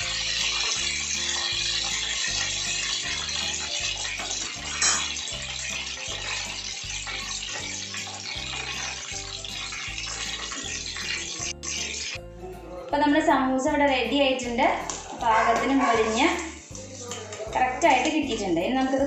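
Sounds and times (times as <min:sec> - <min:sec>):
food deep-frying in oil: 0:00.0 - 0:12.2, 0:14.4 - 0:19.0.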